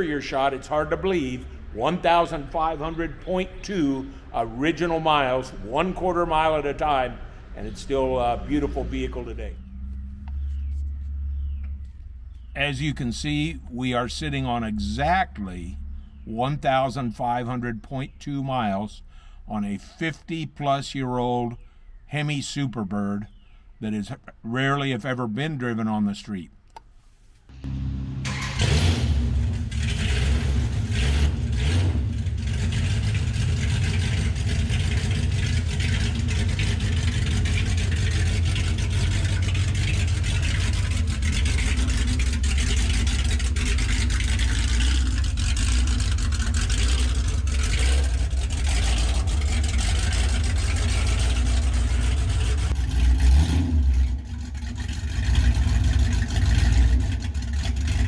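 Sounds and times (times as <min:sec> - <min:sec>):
car engine idling and revving: 0:00.0 - 0:16.6, 0:27.5 - 0:58.0.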